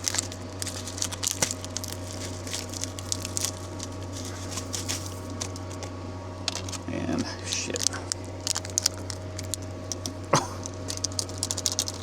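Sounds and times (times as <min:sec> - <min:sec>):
dried flakes pattering into bowl: 0:00.0 - 0:05.9, 0:06.5 - 0:12.0.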